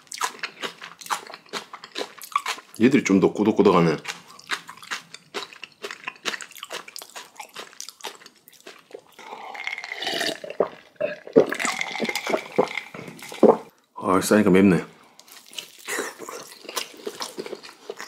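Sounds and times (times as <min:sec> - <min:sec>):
wet chewing with mouth clicks: 0:00.0 - 0:02.9, 0:04.0 - 0:13.8, 0:15.1 - 0:18.0.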